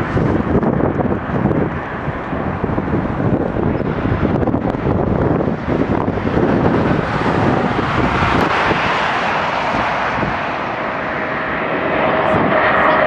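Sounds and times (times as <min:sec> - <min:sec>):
jet aircraft rushing noise: 0:00.0 - 0:13.0
passing road traffic: 0:00.0 - 0:13.0
wind buffeting microphone: 0:00.0 - 0:13.0.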